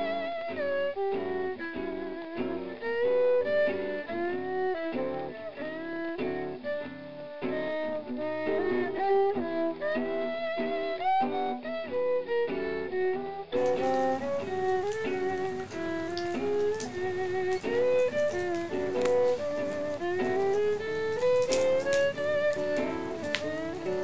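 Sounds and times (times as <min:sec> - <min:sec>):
bowed string melody: 0:00.0 - 0:24.0
guitar: 0:00.0 - 0:24.0.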